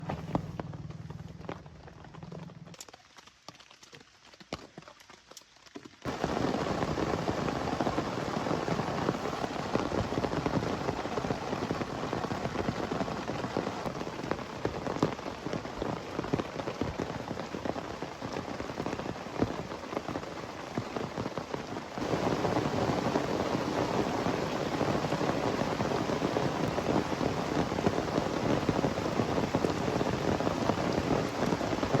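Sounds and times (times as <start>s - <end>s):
heavy rain falling: 6.0s - 32.0s.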